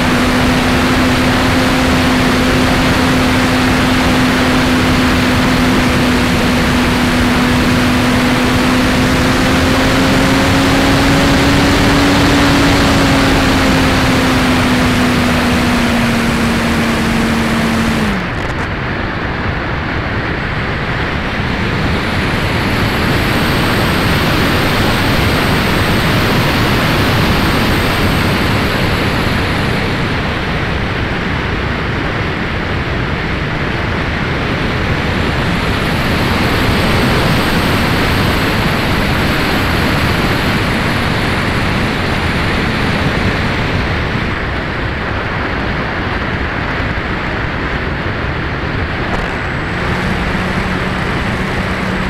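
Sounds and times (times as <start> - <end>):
wind rushing over camera: 0.0 - 52.0.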